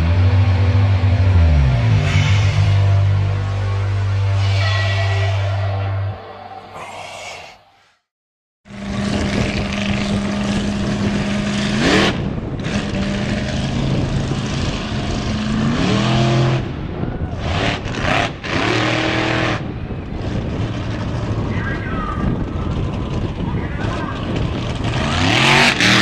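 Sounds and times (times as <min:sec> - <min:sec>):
monster truck engines revving: 0:00.0 - 0:06.2, 0:08.7 - 0:26.0.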